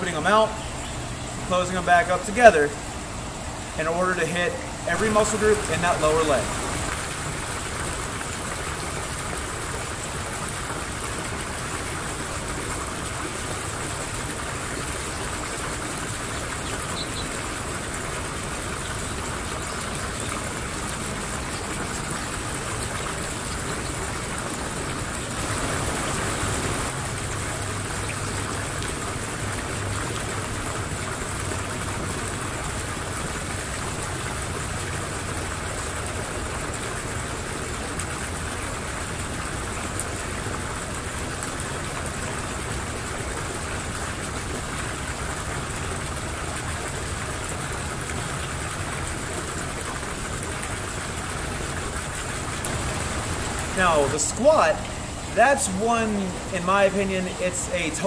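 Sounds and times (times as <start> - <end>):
steady rushing outdoor noise: 0.0 - 58.0.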